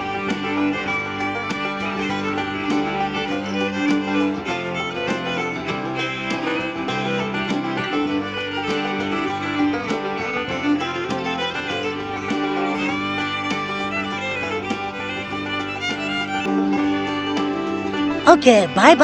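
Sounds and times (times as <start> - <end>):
upbeat country tune with fiddle: 0.0 - 19.0.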